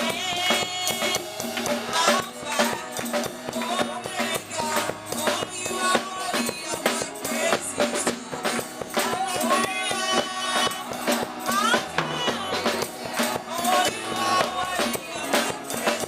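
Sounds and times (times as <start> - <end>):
drum kit beat: 0.0 - 16.0
live gospel band playing: 0.0 - 16.0
tambourine: 0.0 - 16.0.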